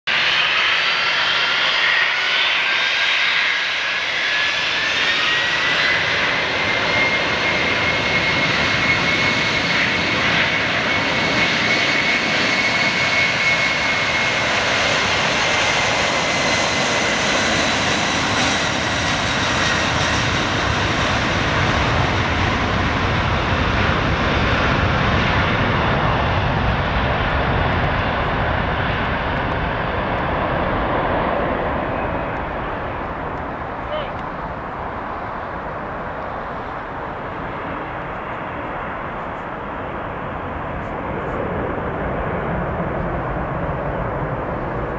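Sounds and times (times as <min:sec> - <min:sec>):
deep aircraft rumble: 0:00.1 - 0:44.9
jet roar on takeoff: 0:00.1 - 0:44.9.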